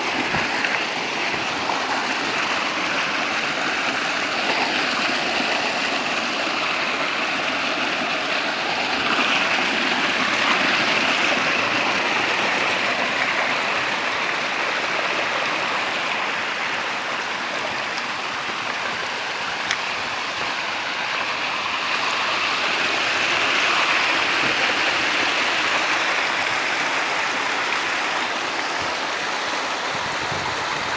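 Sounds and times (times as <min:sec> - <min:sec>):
running water rushing: 0:00.0 - 0:30.9.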